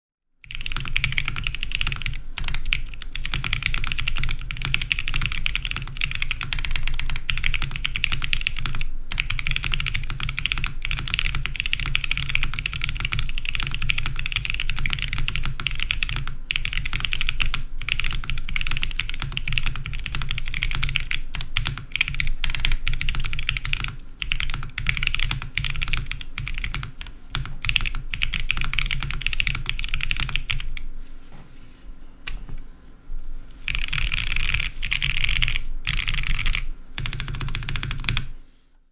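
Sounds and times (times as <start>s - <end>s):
fast mechanical keyboard typing: 0.4s - 30.8s, 33.7s - 38.3s.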